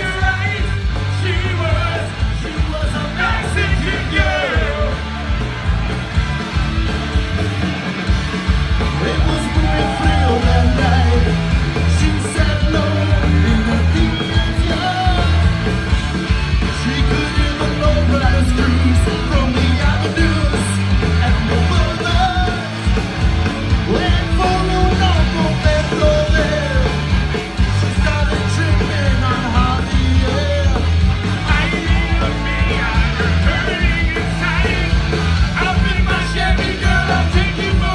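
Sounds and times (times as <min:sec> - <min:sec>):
punk rock band playing: 0:00.0 - 0:37.9
singer singing and yelling: 0:00.0 - 0:37.9.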